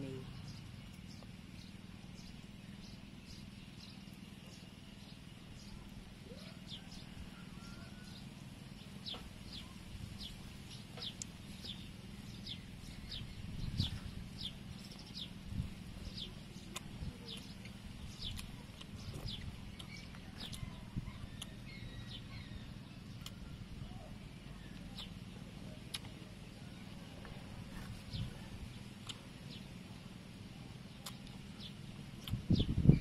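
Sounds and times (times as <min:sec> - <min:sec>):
birds chirping: 0:00.0 - 0:33.0
faint low hum: 0:00.0 - 0:33.0.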